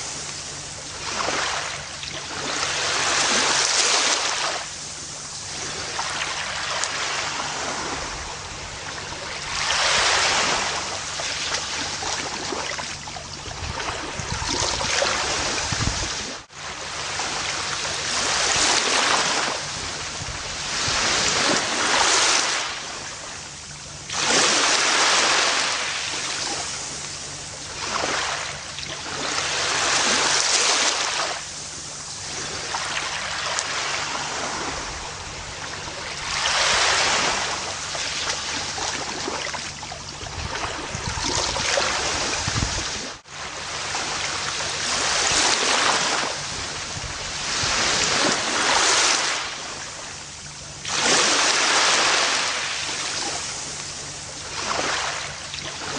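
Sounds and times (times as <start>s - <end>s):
ocean waves breaking on beach: 0.0s - 55.9s.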